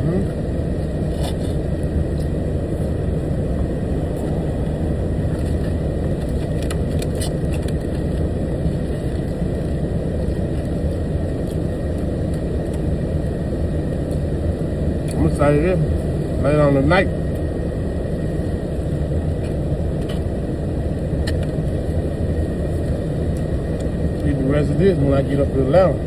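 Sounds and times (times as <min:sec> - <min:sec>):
truck engine rumble inside cab: 0:00.0 - 0:26.0.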